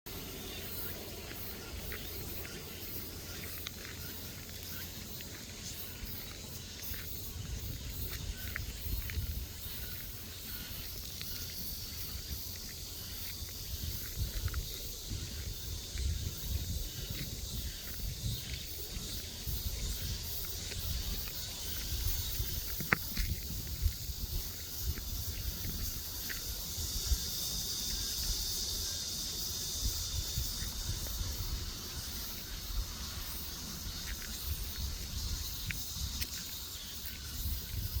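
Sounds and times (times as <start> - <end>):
high insect drone: 0.1 - 38.0.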